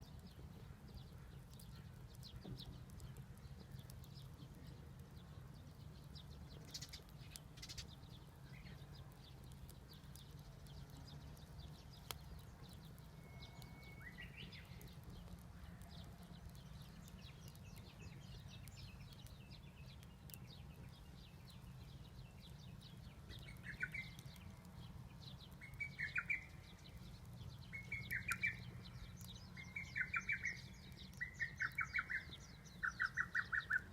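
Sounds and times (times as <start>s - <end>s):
faint ticks: 0.0s - 29.4s
bird chirping calls: 0.2s - 33.9s.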